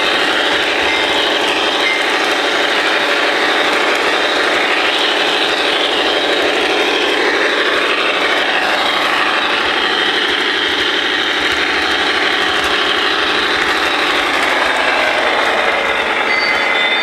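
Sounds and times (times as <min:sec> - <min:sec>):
model train motor whirring: 0:00.0 - 0:17.0.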